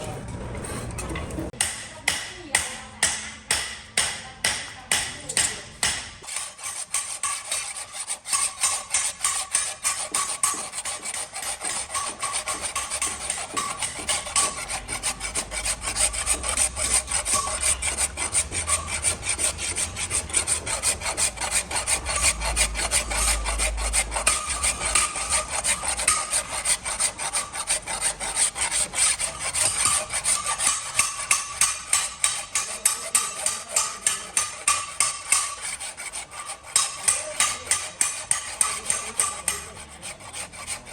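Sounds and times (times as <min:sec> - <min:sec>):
file rasping on steel blade: 0:01.6 - 0:40.9.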